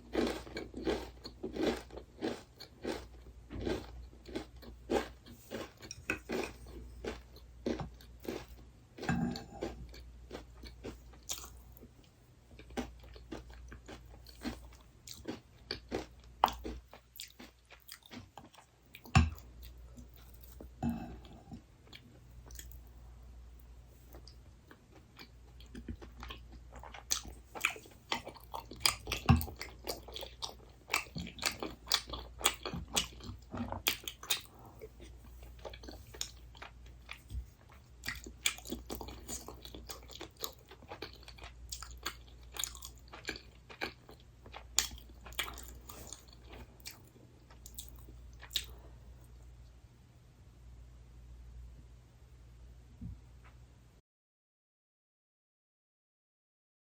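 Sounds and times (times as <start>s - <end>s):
chewing crunchy food: 0.0s - 23.0s, 24.0s - 49.5s.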